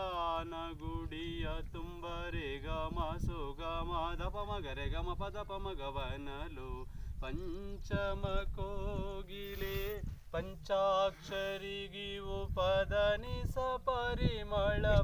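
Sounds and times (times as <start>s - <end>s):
man singing unaccompanied: 0.0s - 15.0s
wind rumbling on microphone: 0.0s - 15.0s.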